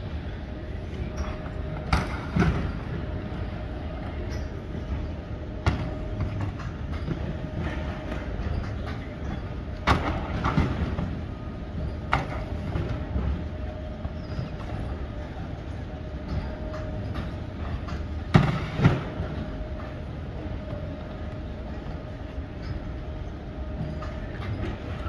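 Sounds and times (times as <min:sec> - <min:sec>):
baggage carousel belt rumbling: 0:00.0 - 0:25.0
faint hum: 0:00.0 - 0:25.0.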